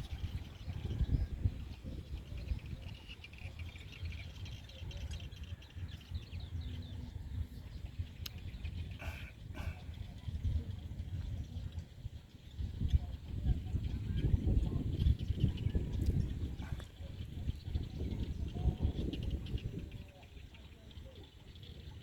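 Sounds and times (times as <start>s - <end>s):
steady low rumble: 0.0s - 20.2s.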